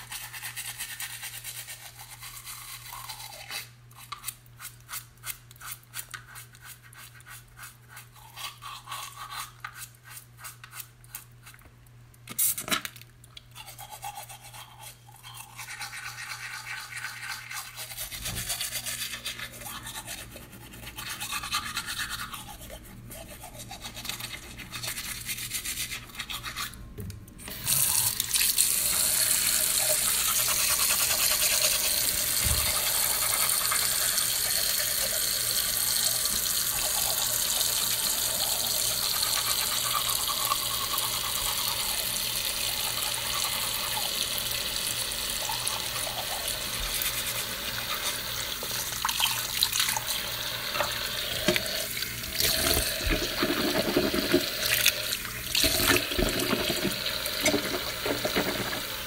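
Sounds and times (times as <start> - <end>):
toothbrush scrubbing teeth: 0.0 - 11.6, 13.4 - 26.8, 28.8 - 50.0, 51.5 - 59.0.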